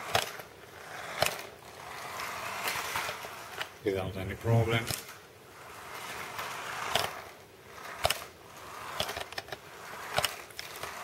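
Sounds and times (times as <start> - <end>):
toy car motor whirring: 0.0 - 3.8, 4.5 - 11.0
plastic wheels rolling on floor: 0.0 - 11.0.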